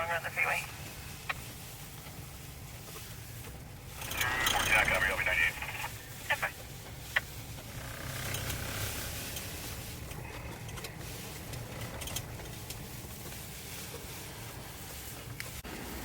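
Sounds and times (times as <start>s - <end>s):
vehicle low rumble: 0.0s - 16.0s.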